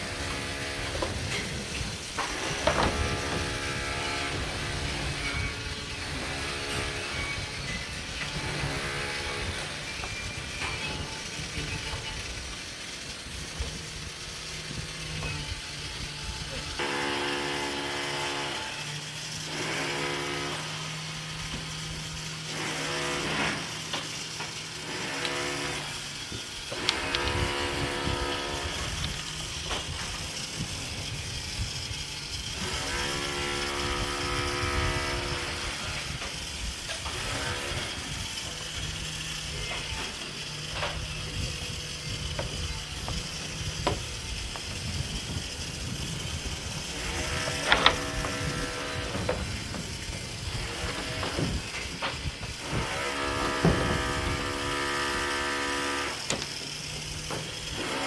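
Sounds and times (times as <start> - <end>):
mechanical ratcheting: 0.0 - 58.0.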